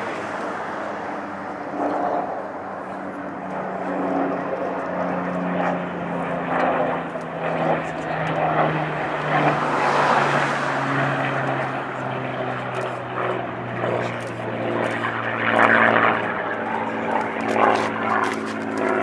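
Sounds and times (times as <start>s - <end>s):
propeller plane engine droning overhead: 0.0s - 19.0s.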